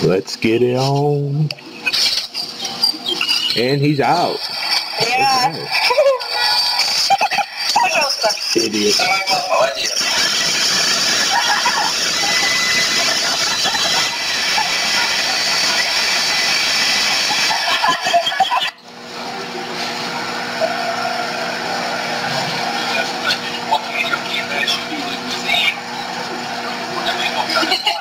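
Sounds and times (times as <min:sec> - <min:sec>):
leaf blower running: 0:04.2 - 0:28.0.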